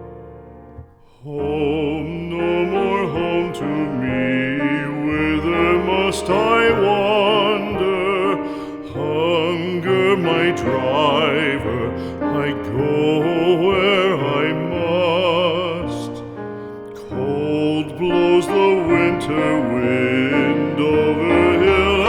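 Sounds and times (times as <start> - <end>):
piano accompaniment: 0.0 - 22.0
person singing with vibrato: 1.0 - 22.0.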